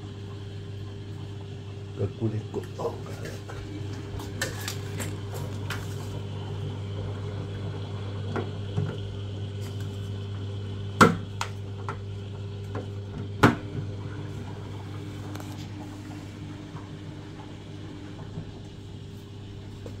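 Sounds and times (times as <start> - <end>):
washing machine humming: 0.0 - 20.0.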